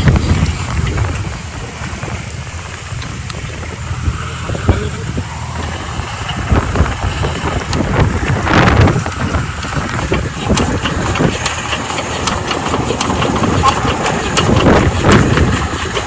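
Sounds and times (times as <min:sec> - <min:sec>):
diesel water pump engine running: 0:00.0 - 0:16.0.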